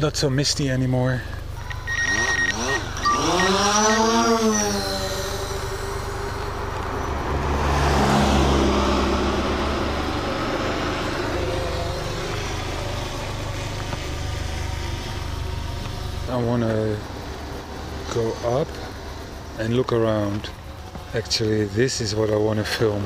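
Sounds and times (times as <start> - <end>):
vehicle engine: 0.0 - 23.0
passing vehicle rumble and tyre noise: 1.2 - 23.0.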